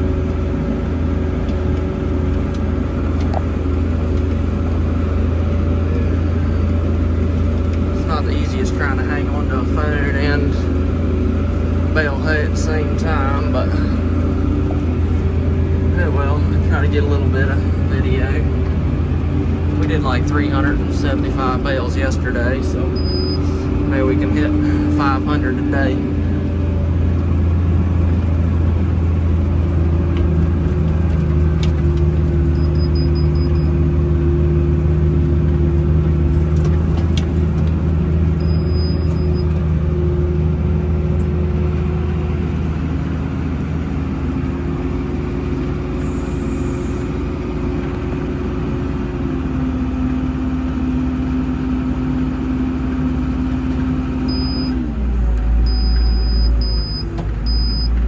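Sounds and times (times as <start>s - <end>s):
baler rumble: 0.0s - 58.0s
tractor engine under load: 0.0s - 58.0s.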